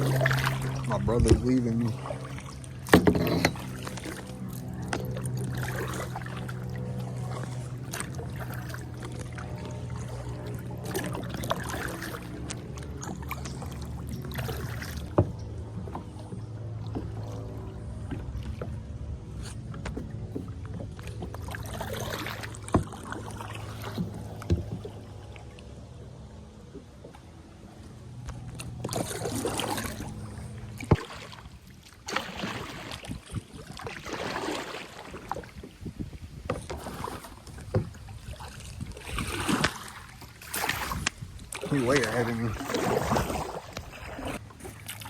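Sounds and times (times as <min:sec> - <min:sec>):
paddle knocking against kayak: 0:00.0 - 0:10.2, 0:10.8 - 0:25.2, 0:30.8 - 0:31.3, 0:32.0 - 0:45.0
paddle splashing through water: 0:00.0 - 0:45.0.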